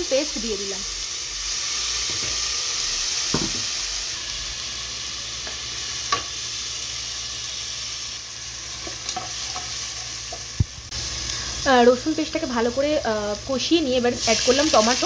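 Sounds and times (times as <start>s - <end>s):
garlic paste sizzling in oil: 0.0s - 15.0s.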